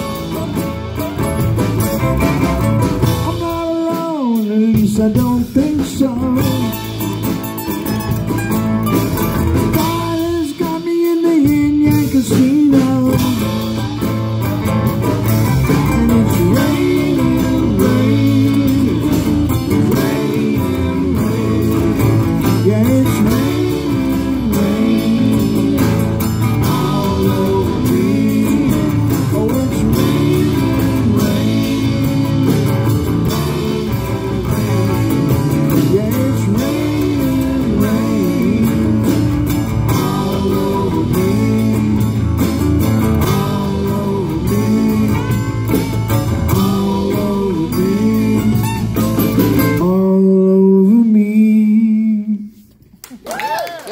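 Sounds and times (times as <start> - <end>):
live band playing blues-rock: 0.0 - 51.2.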